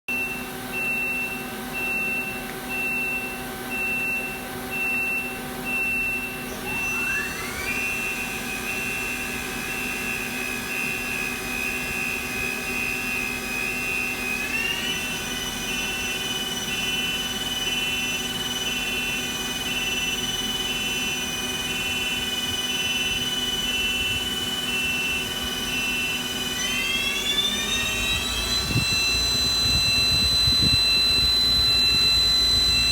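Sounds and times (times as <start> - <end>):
pulsing beep tone: 0.1 - 32.9
motor whine rising: 6.2 - 32.9.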